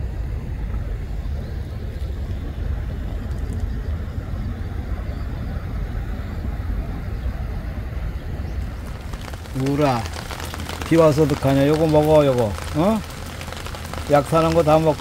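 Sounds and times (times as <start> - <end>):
road and wind noise: 0.0 - 15.0
vehicle rumble: 0.0 - 15.0.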